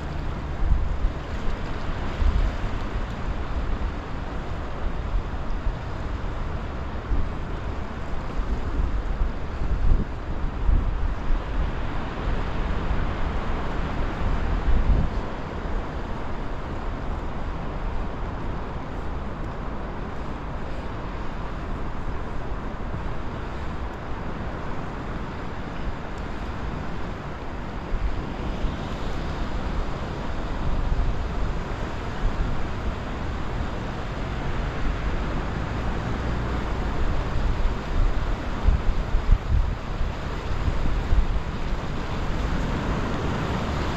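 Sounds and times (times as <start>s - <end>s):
wind gusting over microphone: 0.0s - 43.9s.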